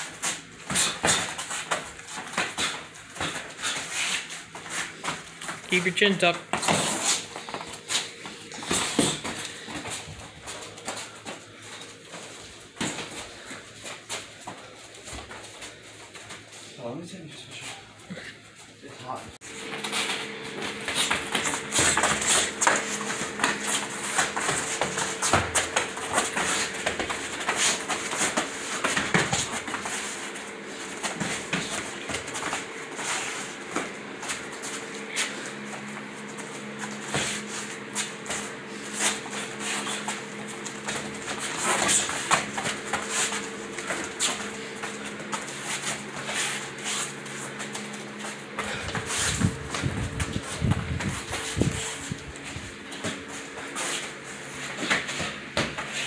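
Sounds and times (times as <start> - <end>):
bare feet shuffling on rubber mat: 0.0 - 16.8, 17.5 - 56.0
steady low hum: 0.0 - 56.0.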